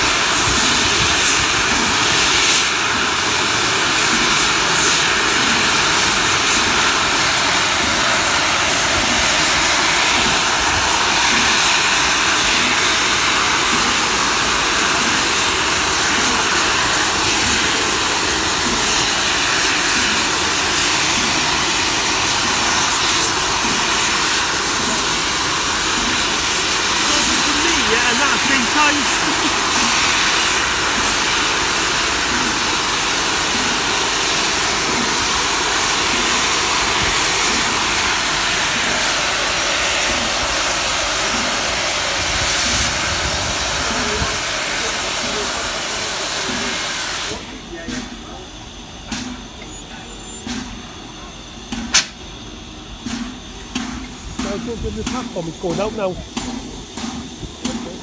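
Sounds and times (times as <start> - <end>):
steam locomotive blowing off steam: 0.0 - 58.0.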